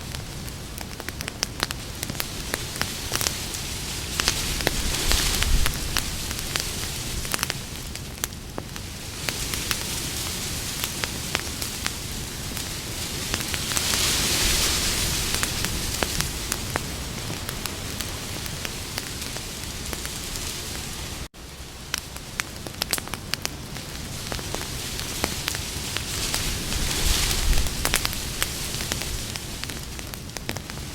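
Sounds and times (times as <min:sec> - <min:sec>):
campfire crackling: 0:00.0 - 0:30.9.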